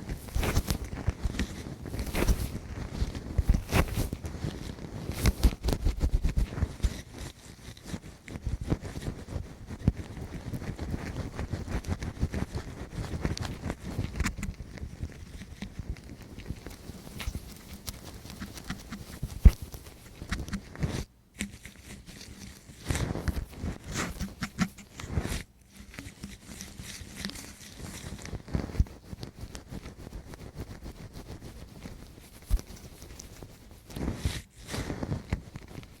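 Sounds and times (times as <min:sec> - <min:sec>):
tool scratching on microphone: 0:00.0 - 0:36.0.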